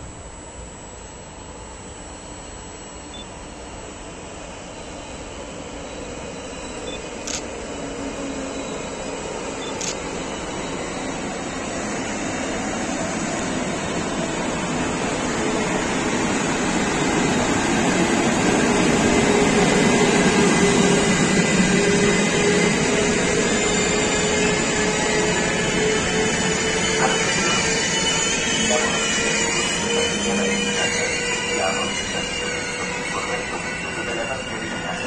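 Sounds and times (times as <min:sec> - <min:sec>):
freight train rolling on rails: 0:03.6 - 0:35.0.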